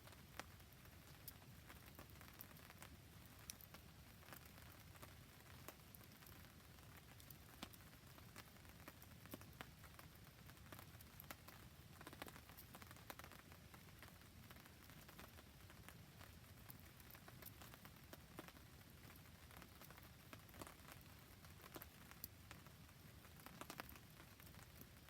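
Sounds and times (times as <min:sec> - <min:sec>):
faint rain pattering: 0:00.0 - 0:25.0
wood fire crackling: 0:00.0 - 0:25.0.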